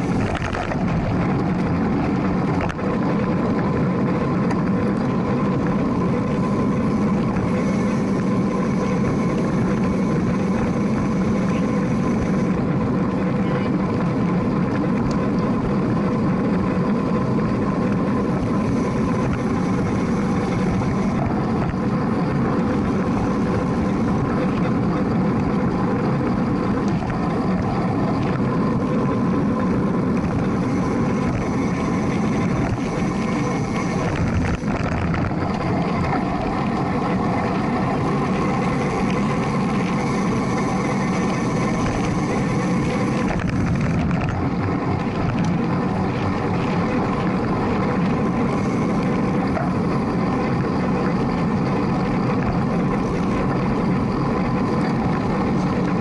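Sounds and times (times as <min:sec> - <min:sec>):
road noise from bike: 0:00.0 - 0:56.0.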